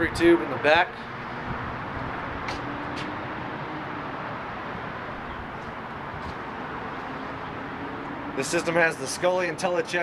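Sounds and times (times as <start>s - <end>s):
outdoor background rumble: 0.0s - 10.0s.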